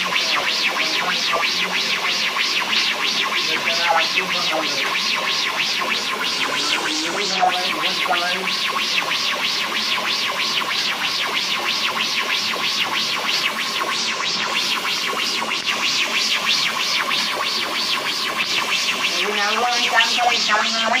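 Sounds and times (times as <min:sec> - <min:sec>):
fast beat music with hi-hat ticks: 0:00.0 - 0:21.0.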